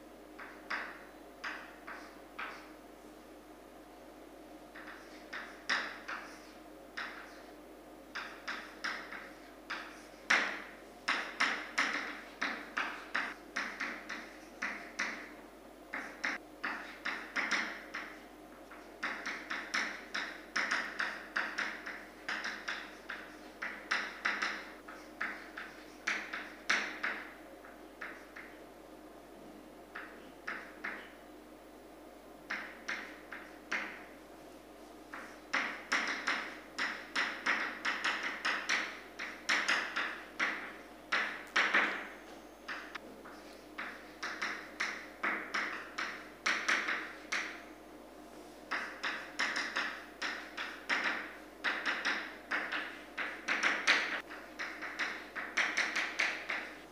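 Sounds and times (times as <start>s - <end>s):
chalk tapping and scratching on board: 0.4s - 2.7s, 4.7s - 7.5s, 8.1s - 28.6s, 32.5s - 34.1s, 35.1s - 42.1s, 42.7s - 47.6s, 48.7s - 56.8s.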